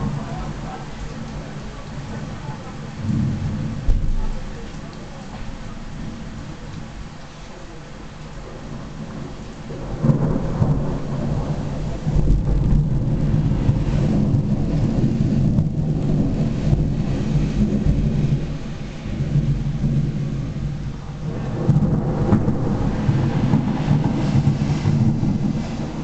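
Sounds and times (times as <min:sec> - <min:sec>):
thunder rumbling: 0:00.0 - 0:07.1, 0:08.2 - 0:26.0.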